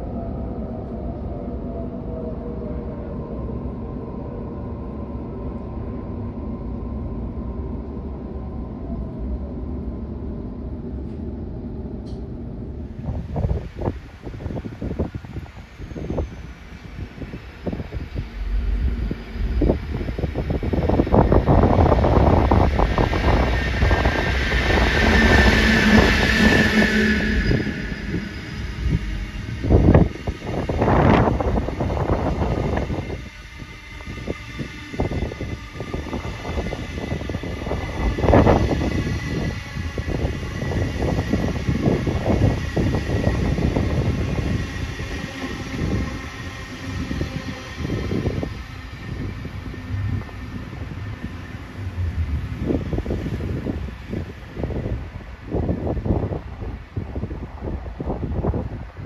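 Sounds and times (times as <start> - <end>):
diesel locomotive passing: 0.0 - 59.0.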